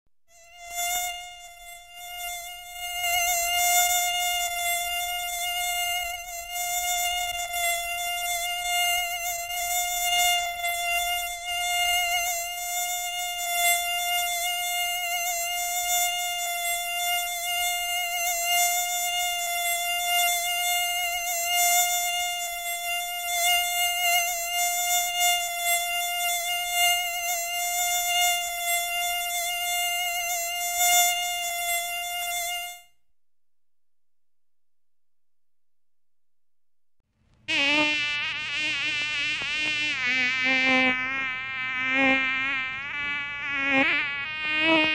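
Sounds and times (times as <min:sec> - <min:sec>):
mosquito buzzing: 0:00.3 - 0:33.0, 0:37.4 - 0:44.9.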